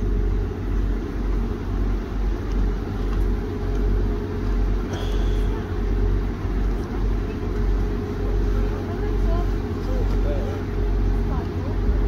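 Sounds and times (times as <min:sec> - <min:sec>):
diesel train engines idling: 0:00.0 - 0:12.0.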